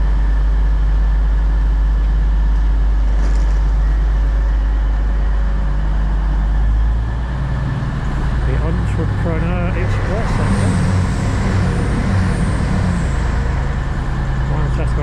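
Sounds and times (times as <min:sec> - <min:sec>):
diesel train engine rumbling: 0:00.0 - 0:15.0.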